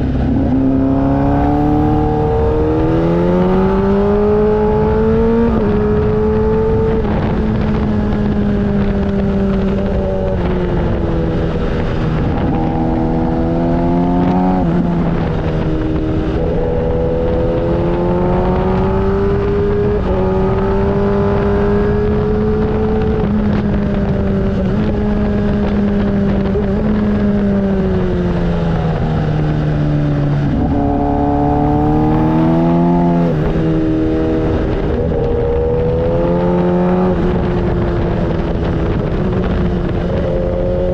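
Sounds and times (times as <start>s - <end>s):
motorcycle engine running: 0.0s - 40.9s
wind and road rumble: 0.0s - 40.9s.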